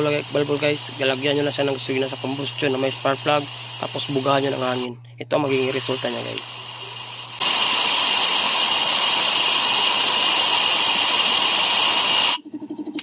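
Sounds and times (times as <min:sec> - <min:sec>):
compressed air hissing: 0:00.0 - 0:12.4.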